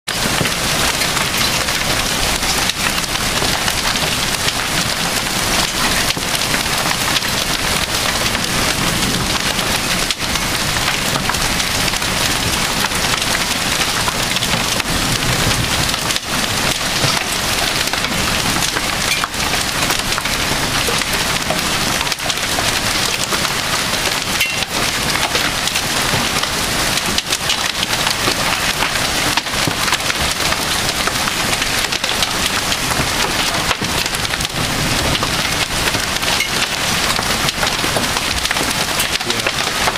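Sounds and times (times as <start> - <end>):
hail pelting hard surfaces: 0.1 - 39.9.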